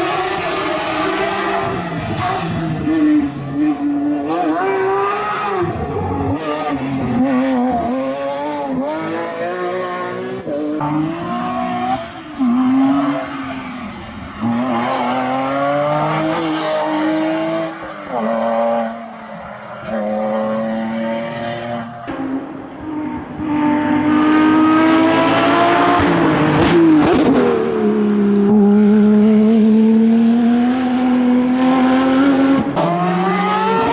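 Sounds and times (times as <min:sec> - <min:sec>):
rally car engines revving: 0:00.0 - 0:33.9.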